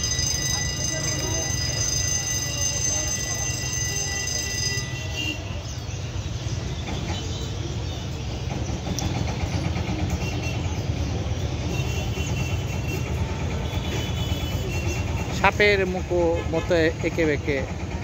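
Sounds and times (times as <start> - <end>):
diesel locomotive engine rumble: 0.0 - 18.0.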